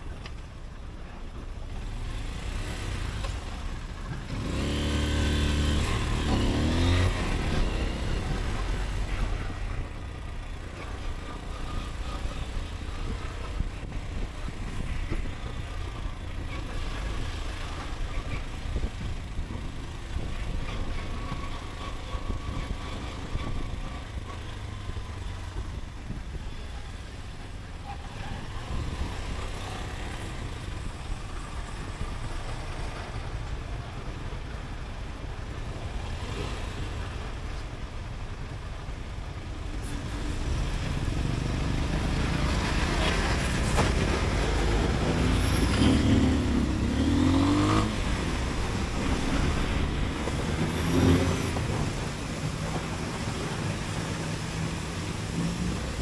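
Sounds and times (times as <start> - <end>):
motorcycle engine rumble: 0.0 - 56.0
road and wind noise: 0.0 - 56.0.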